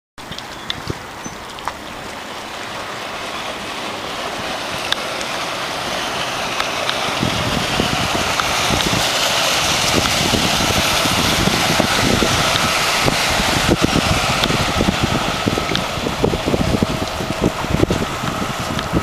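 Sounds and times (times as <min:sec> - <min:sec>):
boat hull and wake spray rushing: 0:00.2 - 0:19.0.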